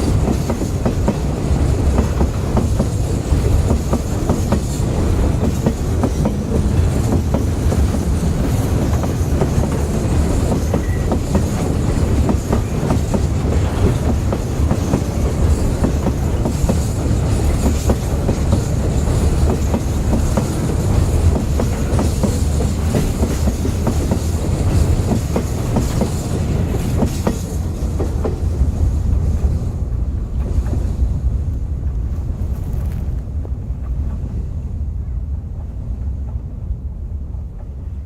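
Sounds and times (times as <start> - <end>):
railway wagons rumbling: 0.0 - 38.0.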